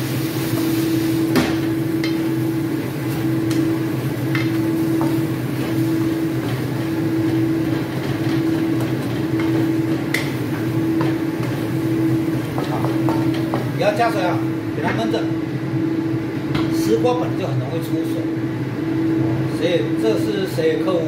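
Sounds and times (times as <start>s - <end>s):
pulsing mechanical hum: 0.0s - 21.0s.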